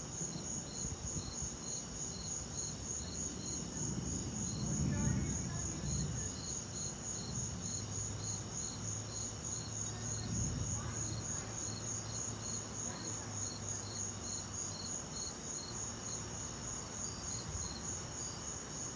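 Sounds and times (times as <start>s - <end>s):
slow regular cricket chirp: 0.0s - 18.9s.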